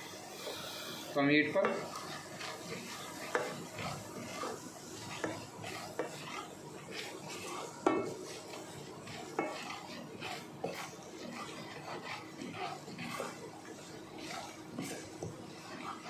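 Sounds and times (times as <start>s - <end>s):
light sizzle: 0.0s - 16.0s
spatula scraping a pan: 0.0s - 16.0s.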